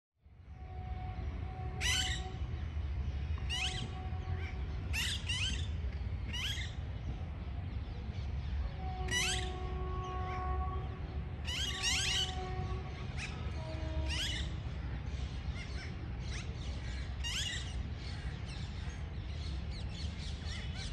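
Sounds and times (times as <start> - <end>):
steady low rumble: 0.2 - 20.9.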